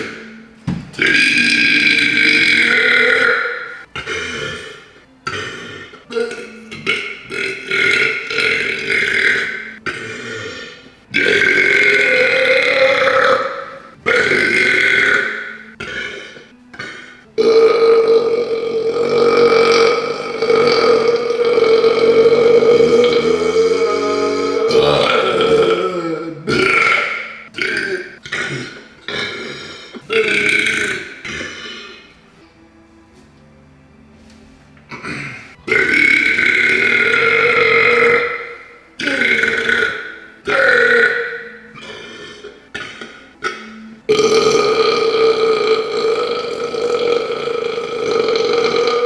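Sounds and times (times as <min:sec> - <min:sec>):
person belching: 0:00.0 - 0:32.2, 0:34.9 - 0:49.0
person burping: 0:00.0 - 0:32.2, 0:34.9 - 0:49.0.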